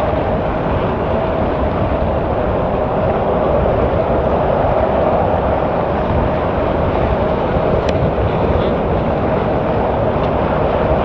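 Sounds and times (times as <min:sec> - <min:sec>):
jet engines during takeoff: 0:00.0 - 0:11.0.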